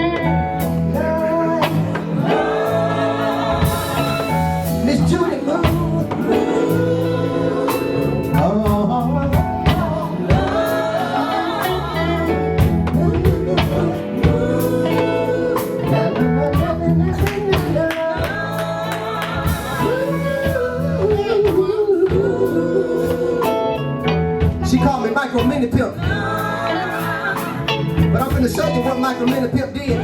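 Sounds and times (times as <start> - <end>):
gospel band playing: 0.0 - 30.0
lead singer singing: 0.0 - 30.0.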